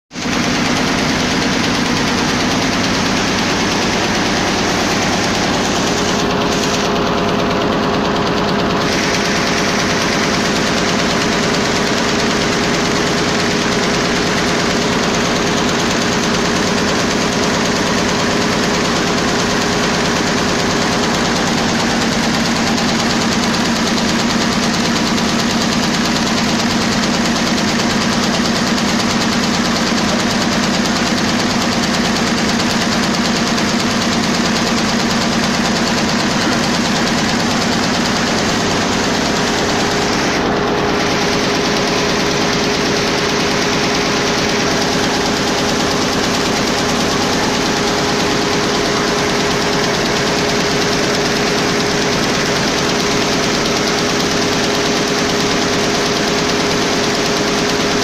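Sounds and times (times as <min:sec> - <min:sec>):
machine hum: 0:00.2 - 0:58.0.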